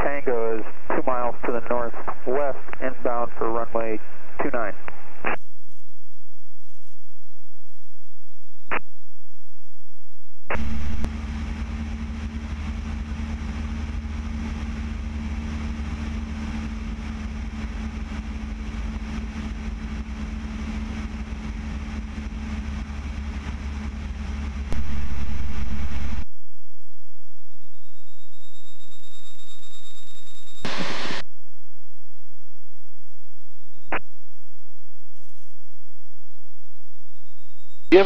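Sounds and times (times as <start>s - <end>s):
airplane engine and propeller drone: 0.0s - 6.8s, 10.5s - 26.3s, 27.0s - 31.2s, 33.3s - 38.0s.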